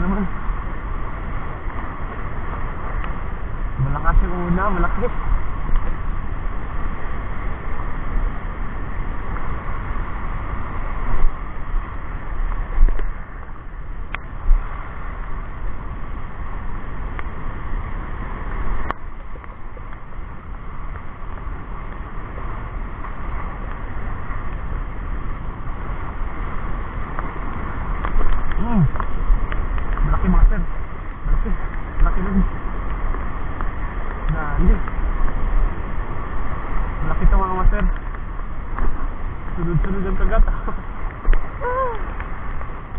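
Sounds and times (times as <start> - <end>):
waves washing onto rocks: 0.0 - 42.9
wind buffeting microphone: 0.0 - 42.9.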